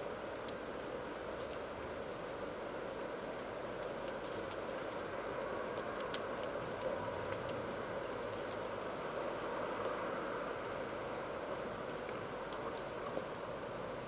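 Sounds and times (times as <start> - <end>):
outdoor noise hiss: 0.0 - 14.0
faint light ticks: 0.2 - 10.0, 11.4 - 13.6.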